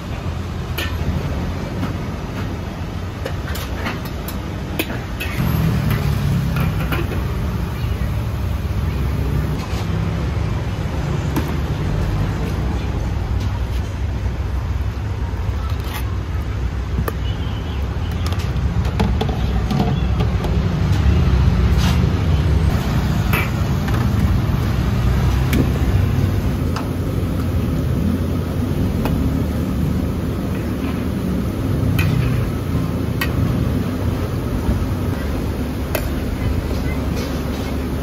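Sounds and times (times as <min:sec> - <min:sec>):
gas burner rumbling: 0:00.0 - 0:15.5, 0:18.3 - 0:38.0.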